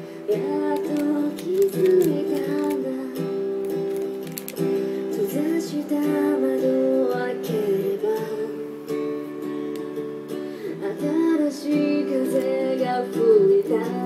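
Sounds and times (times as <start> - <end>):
woman singing: 0.0 - 3.9, 4.7 - 9.2, 10.6 - 14.0
plucked acoustic guitar: 0.0 - 14.0.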